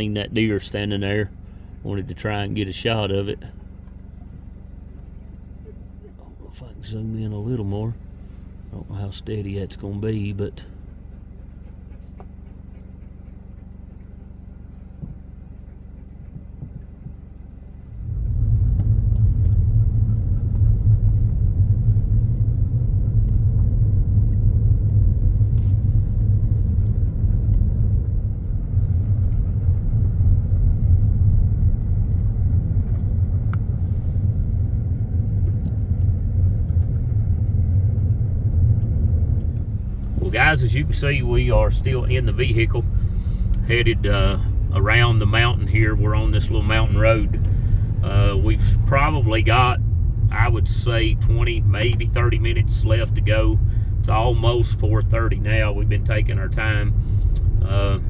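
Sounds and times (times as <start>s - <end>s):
car engine hum: 0.0s - 58.0s
engine and road noise rumble: 0.0s - 58.0s.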